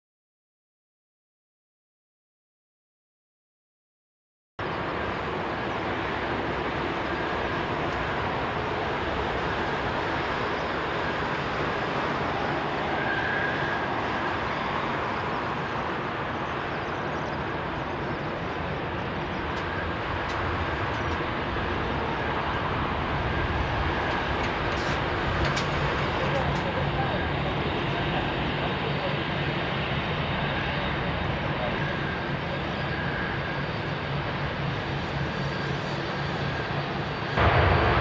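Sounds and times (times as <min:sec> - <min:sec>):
jet engines rumbling: 0:04.6 - 0:38.0.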